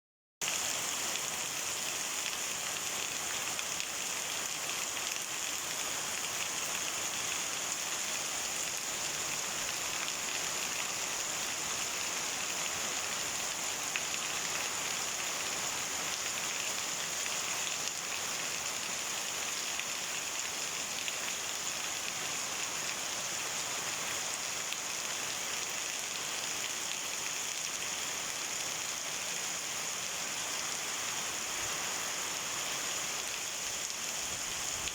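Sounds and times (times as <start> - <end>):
heavy rain downpour: 0.4 - 34.9.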